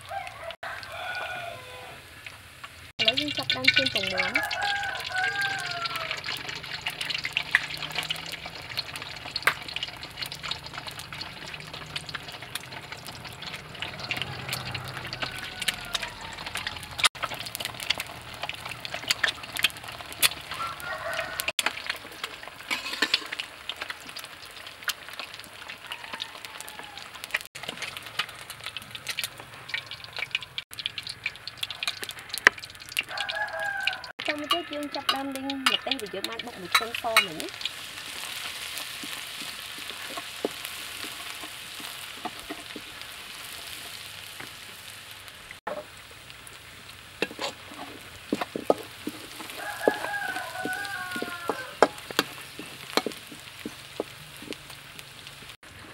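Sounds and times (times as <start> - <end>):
eggs sizzling in hot oil: 0.0 - 55.9.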